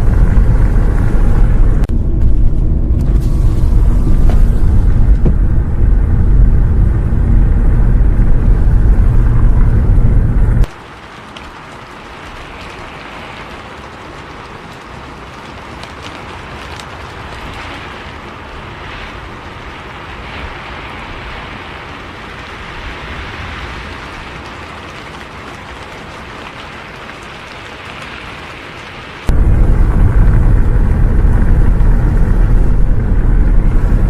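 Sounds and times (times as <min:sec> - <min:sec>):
rain drops ticking: 0:00.0 - 0:34.0
steady rain hiss: 0:00.0 - 0:34.0.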